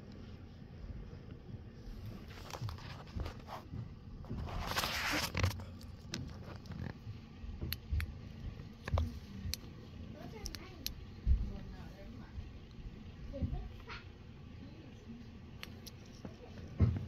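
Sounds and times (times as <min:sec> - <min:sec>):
soft rustling and handling: 0:00.0 - 0:13.9, 0:15.6 - 0:17.0.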